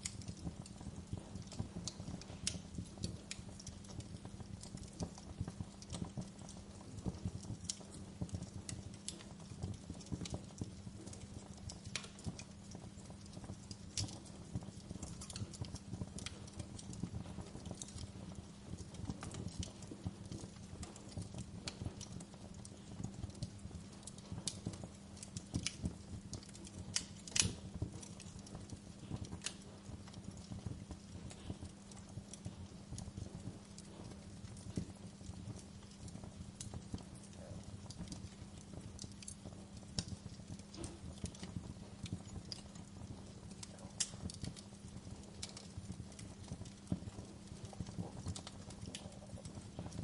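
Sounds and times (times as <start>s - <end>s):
sharp pops of fire: 0.0s - 50.0s
wood fire crackling: 0.0s - 50.0s.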